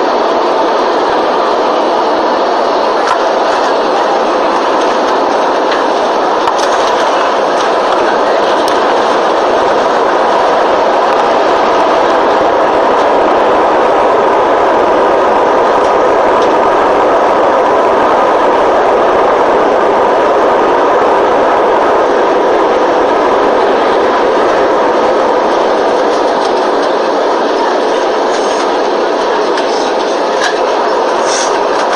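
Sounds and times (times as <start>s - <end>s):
jet airliner roar: 0.0s - 31.9s.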